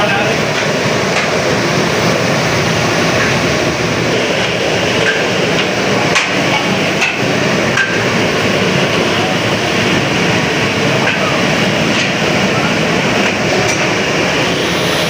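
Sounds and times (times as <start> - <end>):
voices: 0.0 - 14.6
street noise: 0.0 - 15.0.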